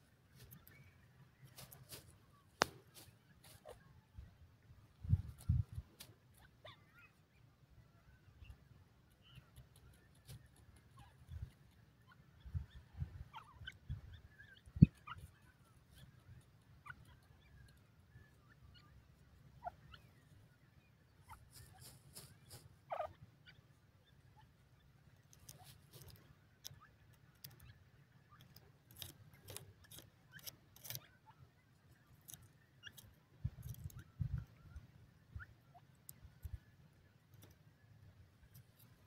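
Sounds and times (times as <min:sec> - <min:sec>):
pheasant hens clucking: 0:00.0 - 0:39.0.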